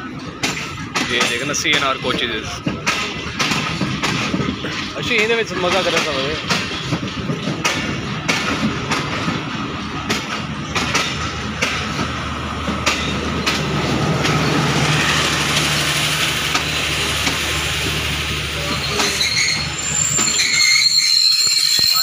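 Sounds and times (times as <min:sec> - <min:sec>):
wheels clacking over rail joints: 0:00.0 - 0:22.0.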